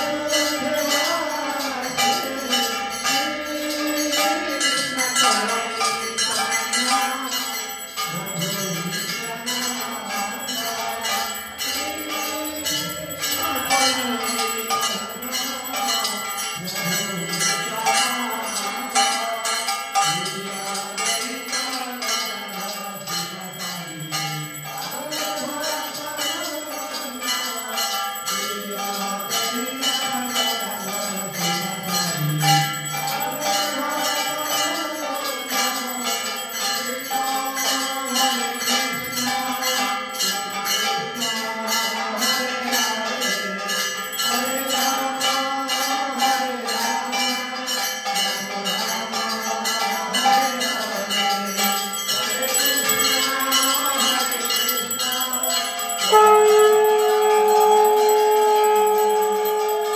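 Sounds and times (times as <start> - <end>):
hand bell ringing: 0.0 - 59.9
people singing: 0.0 - 59.9.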